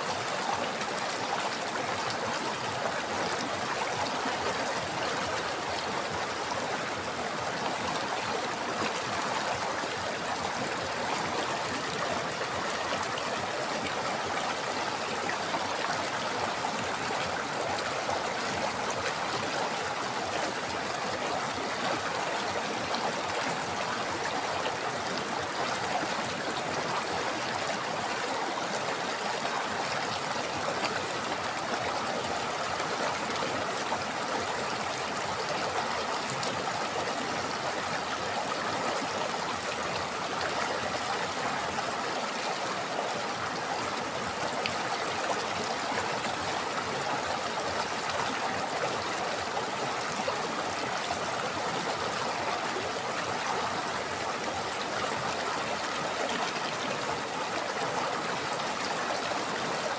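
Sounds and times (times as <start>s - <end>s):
river flowing over stones: 0.0s - 59.9s.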